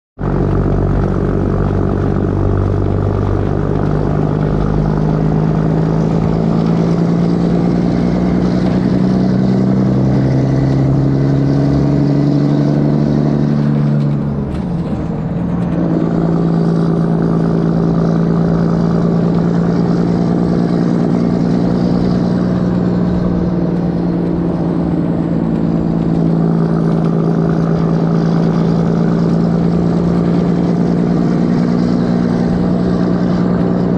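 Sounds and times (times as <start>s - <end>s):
loud diesel truck engine: 0.2s - 33.9s.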